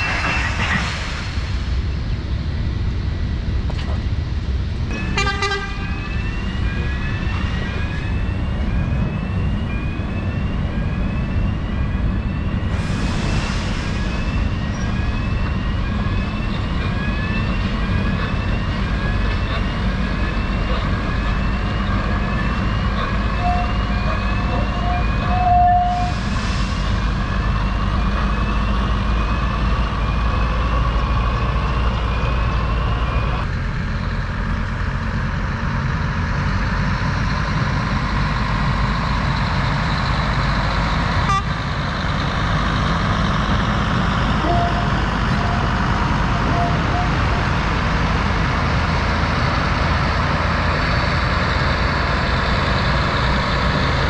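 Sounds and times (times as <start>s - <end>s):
railway vehicle engine running: 0.0s - 54.0s.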